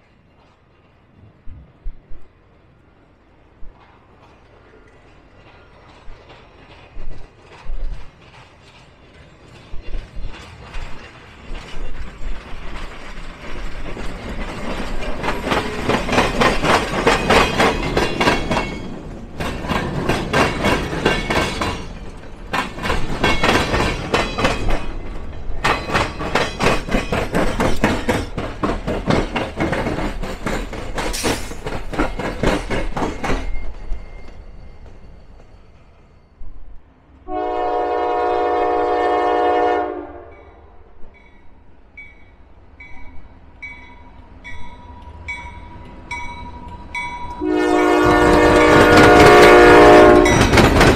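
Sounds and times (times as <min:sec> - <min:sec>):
train wheels clattering: 0:03.6 - 0:36.4, 0:42.8 - 0:50.9.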